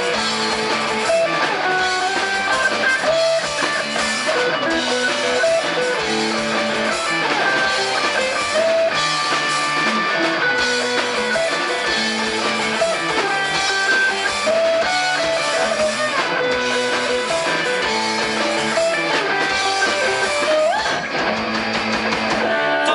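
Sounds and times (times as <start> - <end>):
guitar band instrumental music: 0.0 - 22.9.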